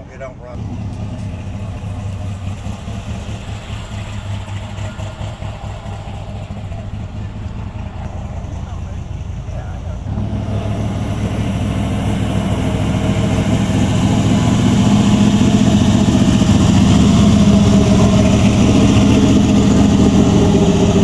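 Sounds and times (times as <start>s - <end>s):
pickup truck engine at low revs: 0.0s - 21.0s.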